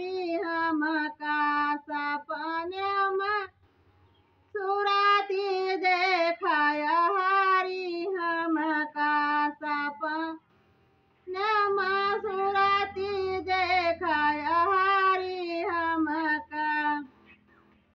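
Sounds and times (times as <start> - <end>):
woman singing unaccompanied: 0.0 - 3.6, 4.5 - 10.4, 11.3 - 17.2.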